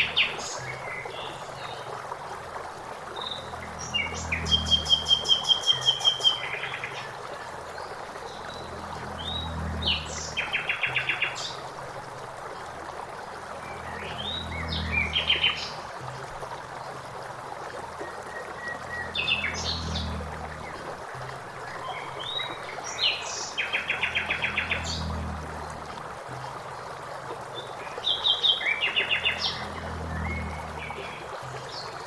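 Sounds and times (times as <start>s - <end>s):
flowing water rushing: 0.0s - 32.0s.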